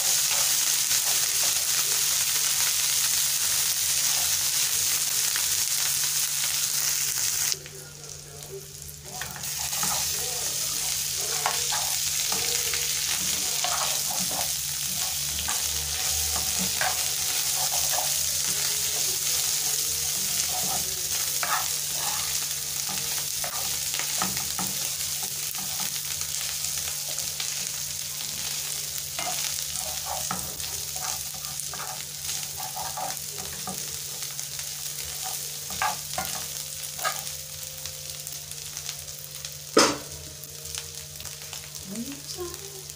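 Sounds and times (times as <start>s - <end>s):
fish sizzling in hot oil: 0.0s - 7.7s, 8.6s - 42.9s.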